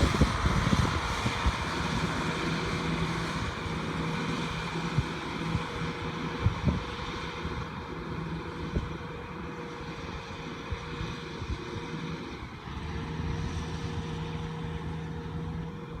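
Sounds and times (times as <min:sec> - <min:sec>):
farm machine engine running: 0:00.0 - 0:16.0.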